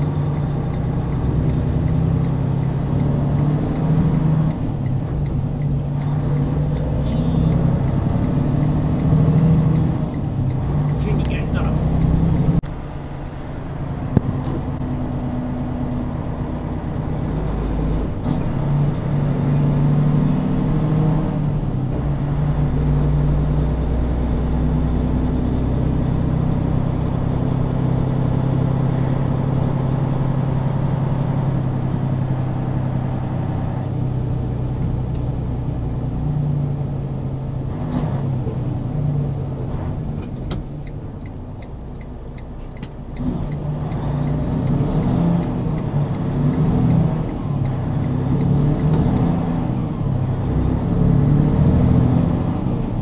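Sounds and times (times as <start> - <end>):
road noise: 0.0 - 53.0
truck diesel engine: 0.0 - 53.0.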